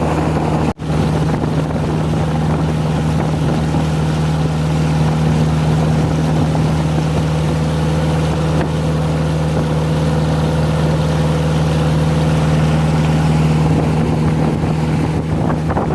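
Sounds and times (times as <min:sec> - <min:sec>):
boat engine droning: 0:00.0 - 0:15.9.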